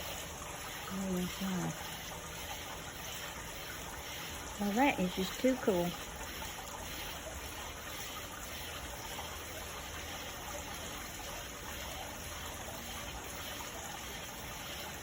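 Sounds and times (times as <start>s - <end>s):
garden fountain splashing: 0.0s - 15.0s.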